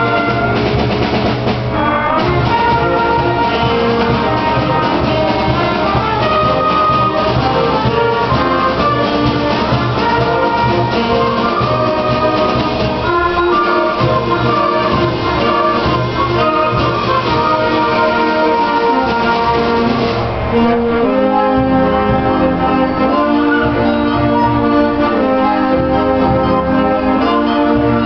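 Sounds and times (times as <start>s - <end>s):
concert band playing: 0.0s - 28.0s.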